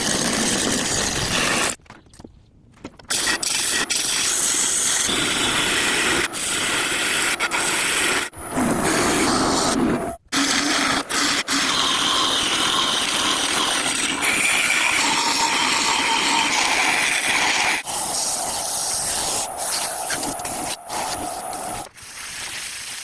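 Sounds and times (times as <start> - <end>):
power tool whirring on wood: 3.1 - 21.9.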